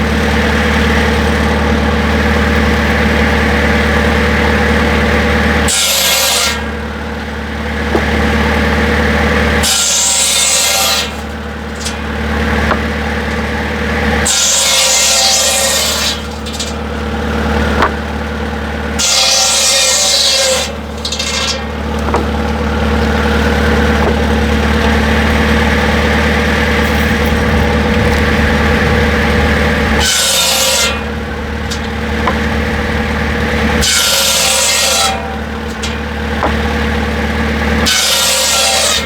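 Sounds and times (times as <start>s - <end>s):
machine humming: 0.0s - 39.0s
harsh rasping grinding: 4.8s - 6.8s, 7.6s - 25.5s, 26.8s - 39.0s.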